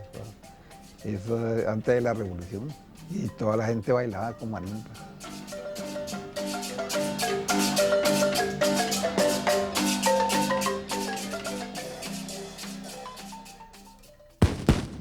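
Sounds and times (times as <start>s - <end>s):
marimba music: 0.0s - 14.4s.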